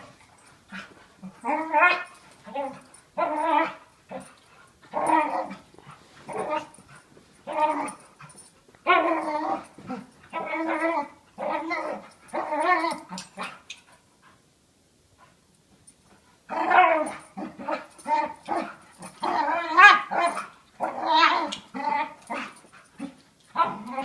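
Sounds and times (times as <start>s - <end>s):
dog growling and whining: 0.0s - 13.6s, 16.5s - 24.0s.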